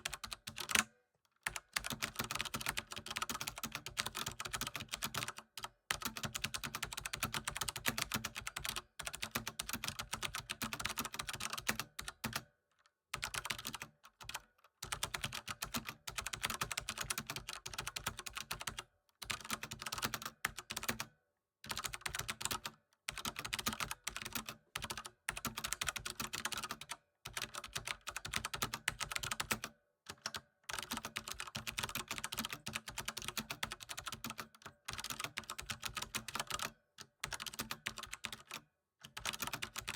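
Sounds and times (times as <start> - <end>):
computer keyboard typing: 0.0 - 12.5, 13.1 - 21.1, 21.7 - 39.9.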